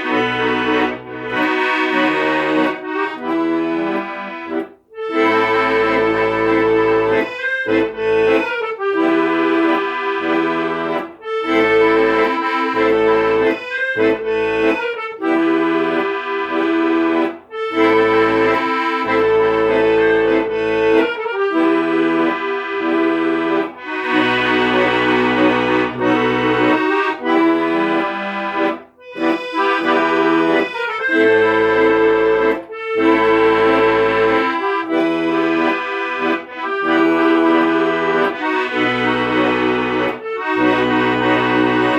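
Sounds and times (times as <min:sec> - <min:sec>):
accordion playing chords: 0:00.0 - 0:41.9.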